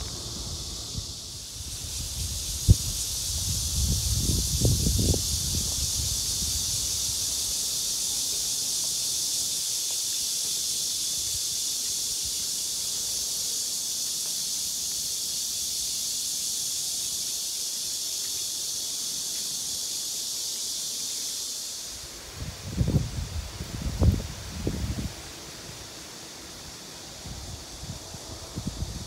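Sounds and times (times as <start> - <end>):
cicadas buzzing: 0.0 - 29.0.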